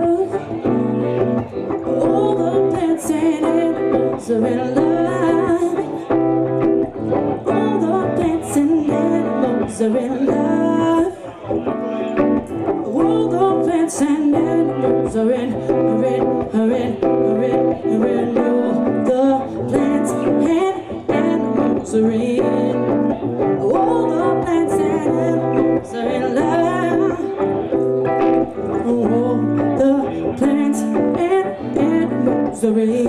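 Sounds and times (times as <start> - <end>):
woman singing: 0.0 - 11.5, 12.4 - 33.0
guitar accompaniment: 0.0 - 33.0.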